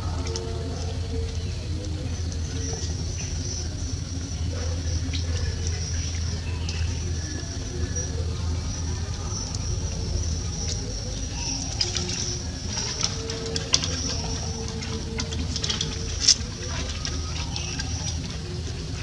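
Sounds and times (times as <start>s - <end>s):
rustles: 0.0s - 19.0s.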